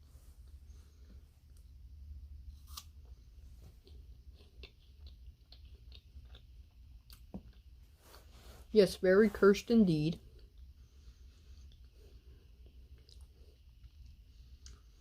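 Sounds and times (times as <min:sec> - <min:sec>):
person chewing cookie: 0:00.4 - 0:08.3, 0:10.2 - 0:15.0.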